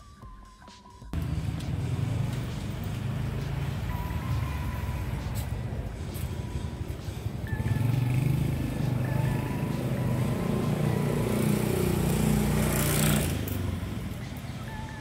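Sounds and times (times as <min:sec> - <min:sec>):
vehicle engine running: 0:01.2 - 0:15.0.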